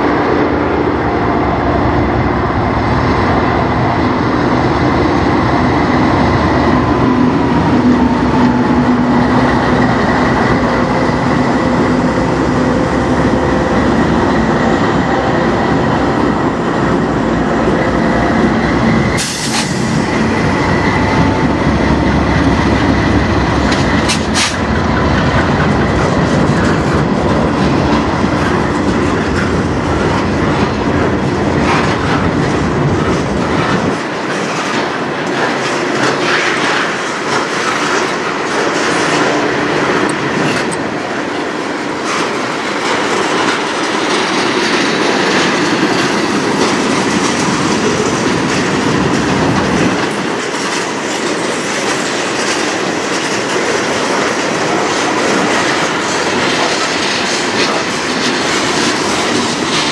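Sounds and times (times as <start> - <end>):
diesel locomotives rumbling: 0.0 - 59.9
freight cars rolling on rails: 0.0 - 59.9.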